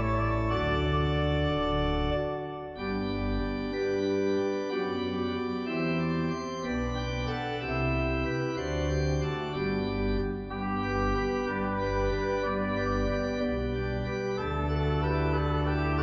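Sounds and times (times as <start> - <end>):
organ chords over deep bass: 0.0 - 16.0.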